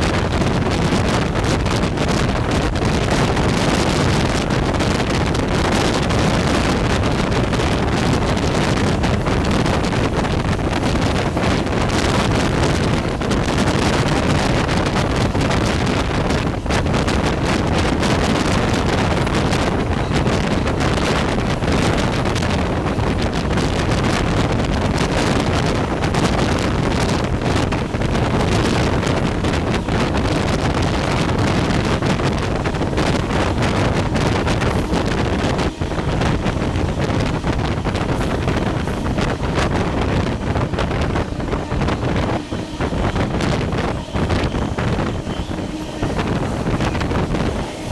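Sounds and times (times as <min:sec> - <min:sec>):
train rushing rumble: 0:00.0 - 0:47.9
wind buffeting microphone: 0:00.0 - 0:47.9.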